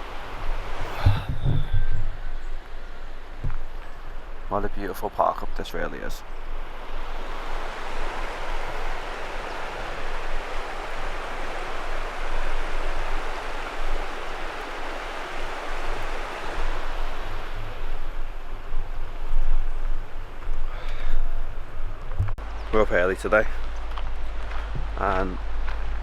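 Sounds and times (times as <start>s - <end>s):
water rushing: 0.0s - 23.4s.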